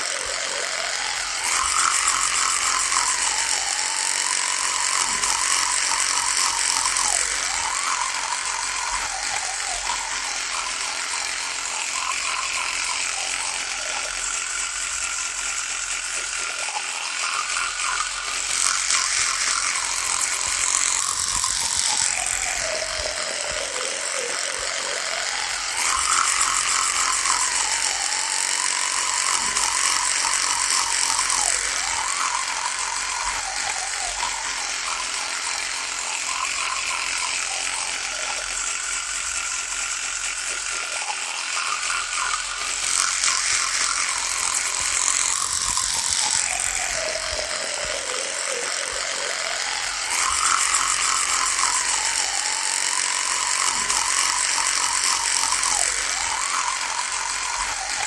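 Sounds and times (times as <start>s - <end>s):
electric toothbrush buzzing: 0.0s - 58.0s.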